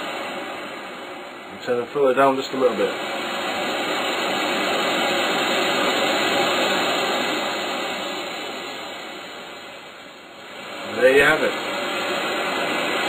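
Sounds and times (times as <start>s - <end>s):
synth white noise waves: 0.0s - 13.0s.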